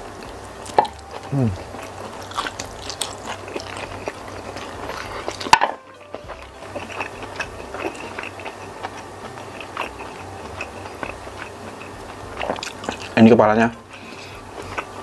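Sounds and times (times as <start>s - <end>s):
chewing: 0.2s - 15.0s
wet sticky finger and food sounds: 0.2s - 15.0s.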